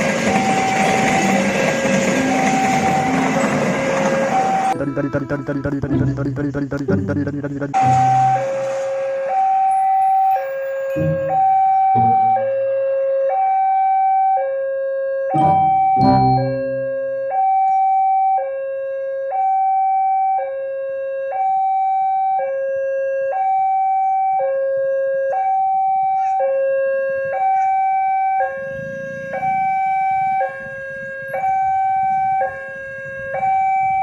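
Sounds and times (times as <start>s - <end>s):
two-tone hi-lo siren: 0.3s - 5.1s, 7.8s - 34.0s.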